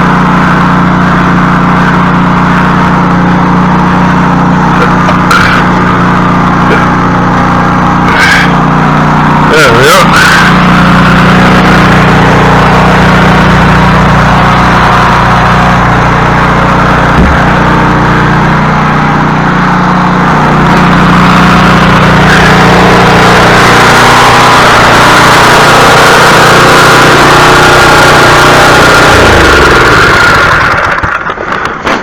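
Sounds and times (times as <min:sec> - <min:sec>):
small gasoline engine running: 0:00.0 - 0:32.0.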